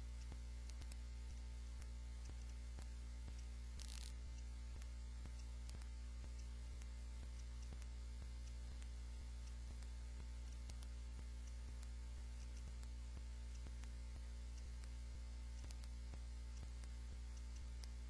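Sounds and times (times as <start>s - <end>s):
electrical mains hum: 0.0s - 18.0s
faint regular ticks: 0.0s - 18.0s.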